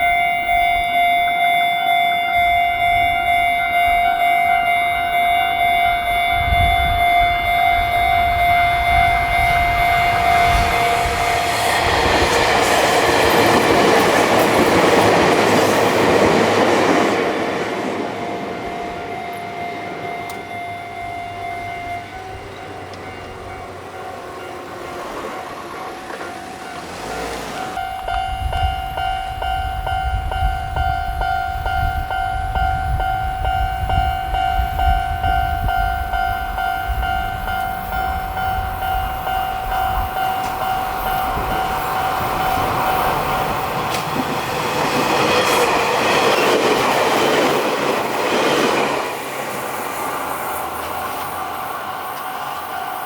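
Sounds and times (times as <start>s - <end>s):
railroad crossing bell ringing: 0.0s - 53.0s
rushing rail noise: 0.0s - 53.0s
train rumble: 0.0s - 53.0s.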